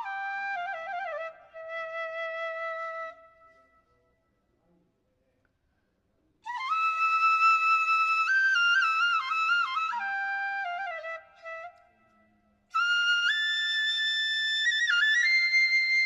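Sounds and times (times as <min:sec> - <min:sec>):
solo flute melody: 0:00.0 - 0:03.9, 0:06.5 - 0:16.0.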